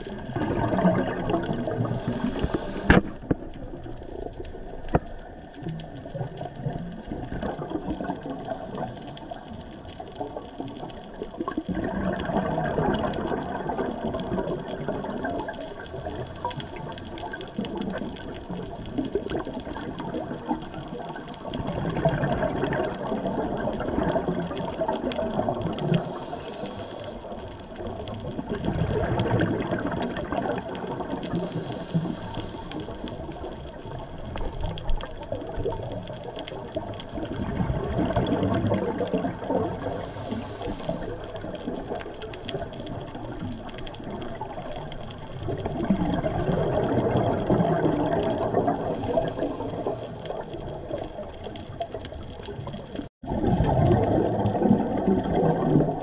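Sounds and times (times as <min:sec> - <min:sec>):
underwater air bubbles gurgling: 0:00.0 - 0:56.0.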